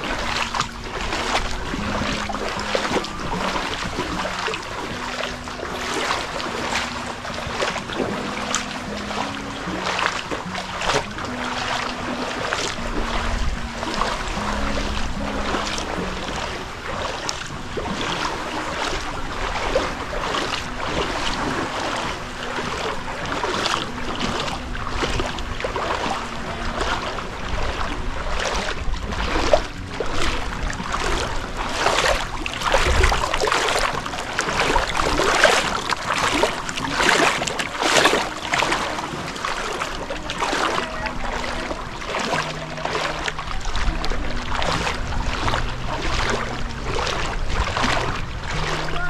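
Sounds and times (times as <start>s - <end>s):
feet wading through seawater: 0.0s - 49.0s
wind rumbling on microphone: 0.0s - 49.0s.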